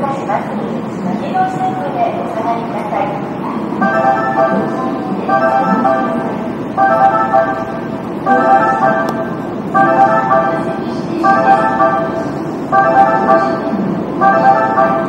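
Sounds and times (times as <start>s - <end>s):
railway station hubbub: 0.0s - 15.0s.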